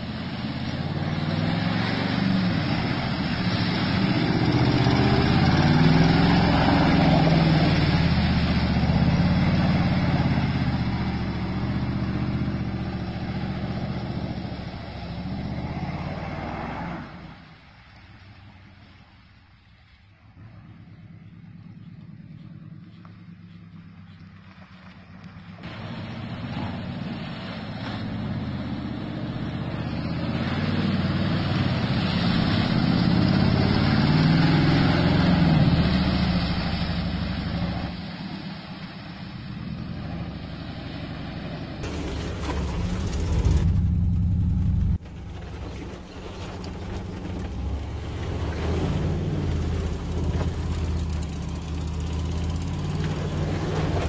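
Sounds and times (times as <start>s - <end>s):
truck engine revving: 0.0s - 17.4s, 20.4s - 38.6s, 39.2s - 54.0s
tyres splashing through mud: 0.0s - 20.5s, 21.4s - 54.0s.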